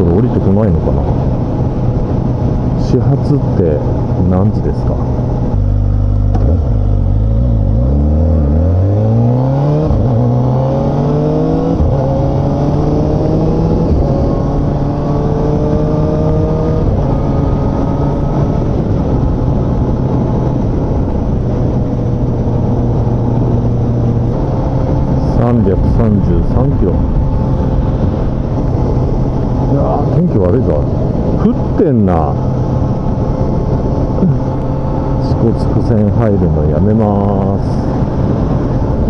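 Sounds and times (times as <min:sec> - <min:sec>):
motorcycle engine accelerating: 0:00.8 - 0:39.0.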